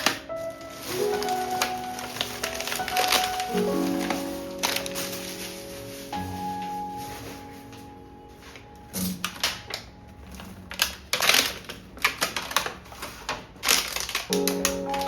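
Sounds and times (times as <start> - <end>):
soft background music: 0.0 - 11.5, 13.6 - 15.0.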